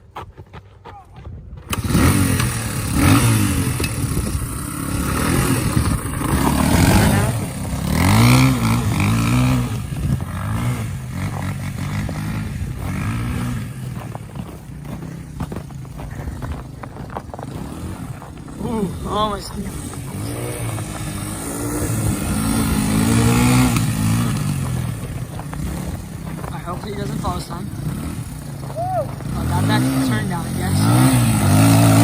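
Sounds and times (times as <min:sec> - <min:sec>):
dirt bike engine revving: 0:01.7 - 0:32.0.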